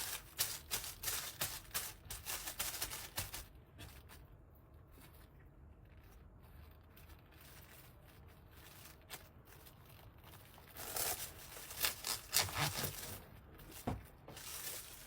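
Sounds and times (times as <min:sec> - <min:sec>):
soft handling noises: 0:00.0 - 0:15.0.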